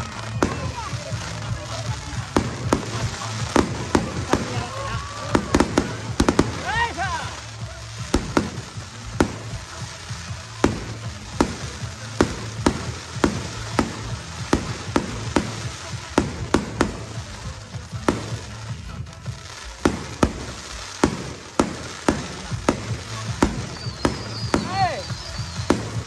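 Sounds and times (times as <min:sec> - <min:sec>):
fireworks bursting with bangs: 0:00.0 - 0:26.0
fireworks crackling: 0:00.0 - 0:26.0.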